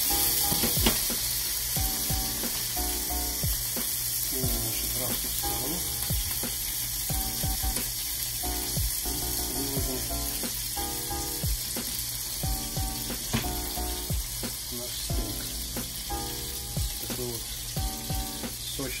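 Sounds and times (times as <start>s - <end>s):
background music: 0.0s - 19.0s
steak sizzling on grill pan: 0.0s - 19.0s.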